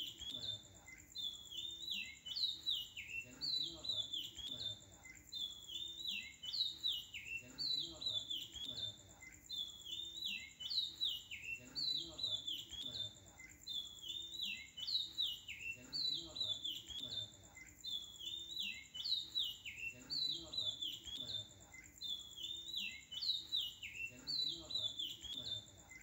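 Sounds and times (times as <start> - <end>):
faint steady high tone: 0.0 - 26.0.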